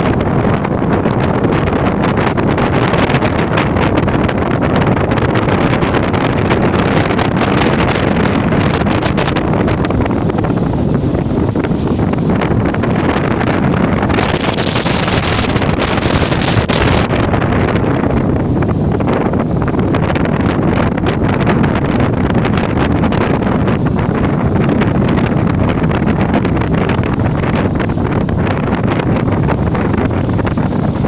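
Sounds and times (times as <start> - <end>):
sea waves washing ashore: 0.0 - 31.0
wind buffeting the microphone: 0.0 - 31.0.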